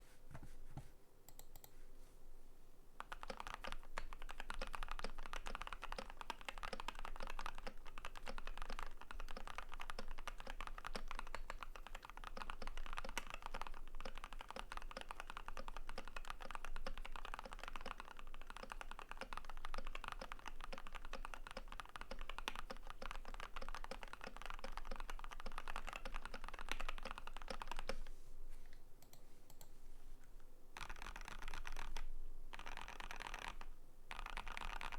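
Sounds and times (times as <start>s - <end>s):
typing on mechanical keyboard: 3.0s - 28.1s, 30.8s - 34.9s.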